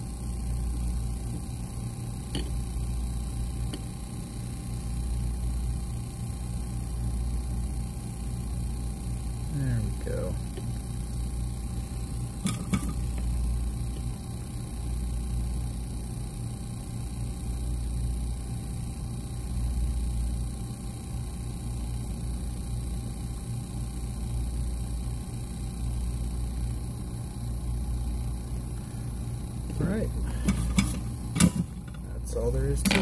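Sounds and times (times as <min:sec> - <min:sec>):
blower rumble and hum: 0:00.0 - 0:33.0.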